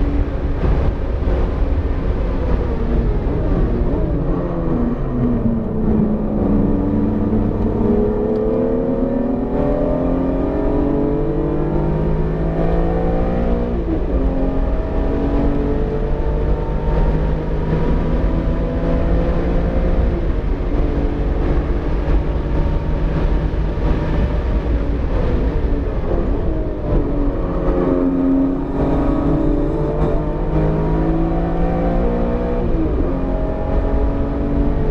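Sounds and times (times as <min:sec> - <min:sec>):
car engine accelerating hard: 0:00.0 - 0:34.9.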